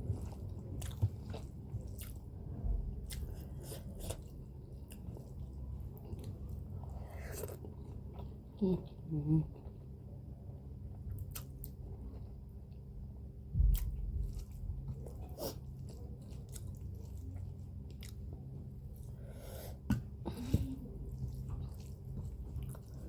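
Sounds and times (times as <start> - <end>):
person chewing noodles: 0.0 - 8.6, 11.2 - 12.4, 13.7 - 23.0
steady low hum: 0.0 - 23.0.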